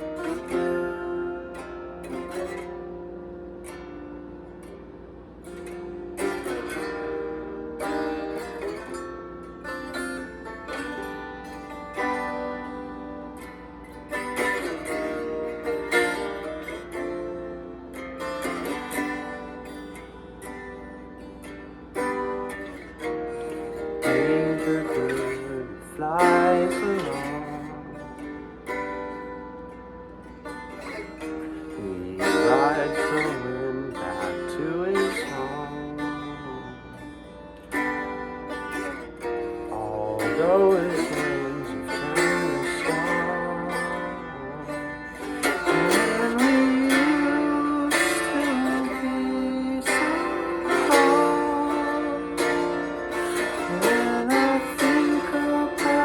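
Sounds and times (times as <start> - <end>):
guitar chords ringing: 0.0 - 56.0.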